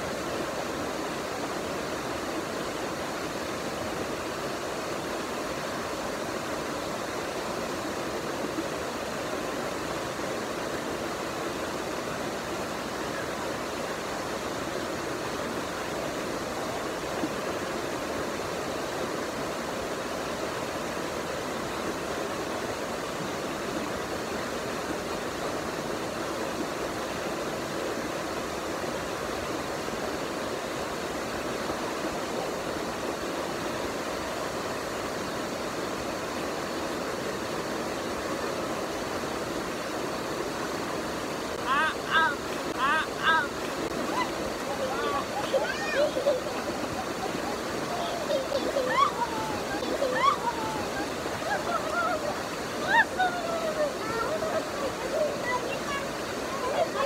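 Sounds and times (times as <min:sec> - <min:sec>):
water rushing over boulders: 0:00.0 - 0:57.0.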